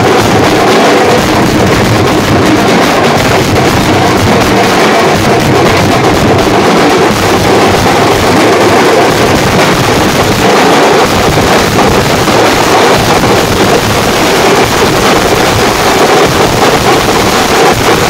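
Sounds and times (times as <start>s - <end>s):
barrel drums beaten with sticks: 0.0s - 18.0s
small drum rattling fast: 0.0s - 18.0s.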